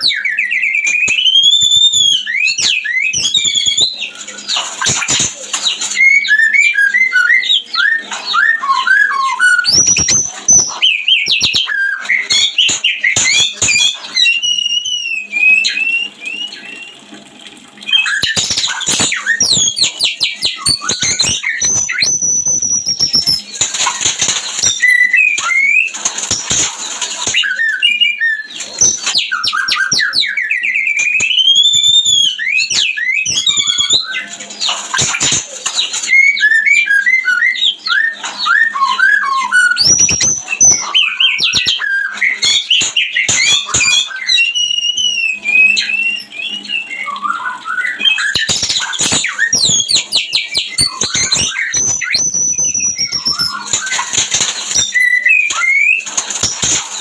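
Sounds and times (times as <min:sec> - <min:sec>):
songbird singing whistles: 0:00.0 - 0:17.2, 0:17.8 - 0:57.0.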